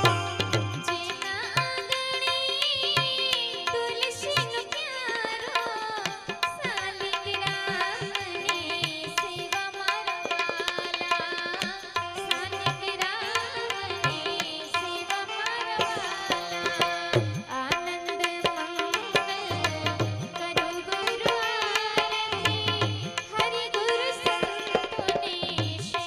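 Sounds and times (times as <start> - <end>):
tabla rhythm: 0.0 - 26.0.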